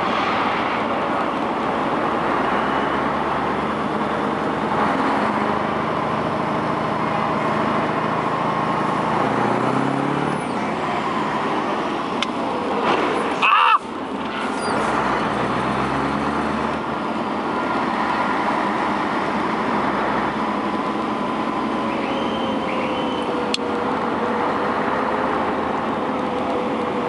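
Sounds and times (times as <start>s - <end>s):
road noise: 0.0s - 27.0s
truck engine running: 0.0s - 27.0s.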